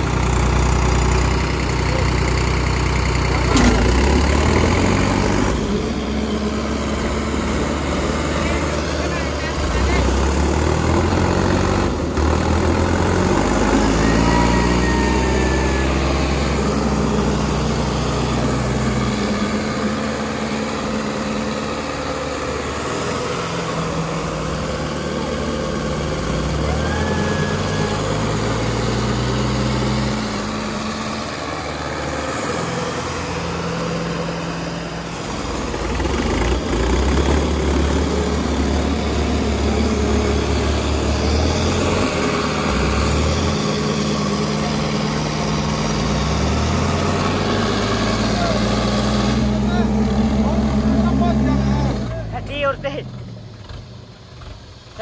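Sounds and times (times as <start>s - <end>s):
diesel tractor engines revving: 0.0s - 55.0s.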